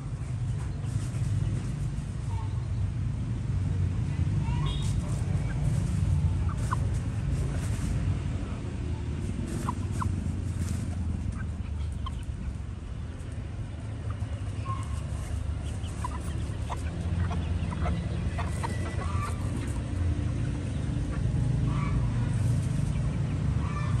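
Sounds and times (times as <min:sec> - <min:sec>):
chicks clucking and peeping: 0:00.1 - 0:24.0.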